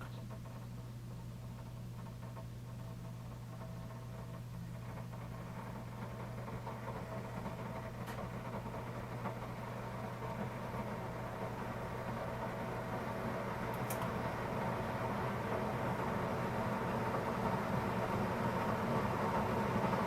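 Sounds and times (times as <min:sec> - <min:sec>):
coffee maker humming: 0:00.0 - 0:20.0.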